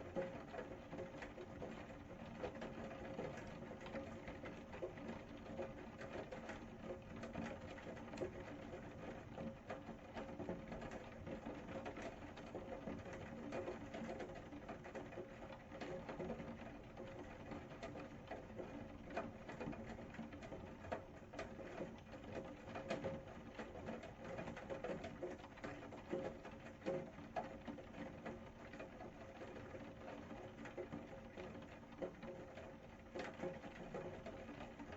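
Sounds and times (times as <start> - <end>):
rain drops ticking on hard surface: 0.0 - 34.9.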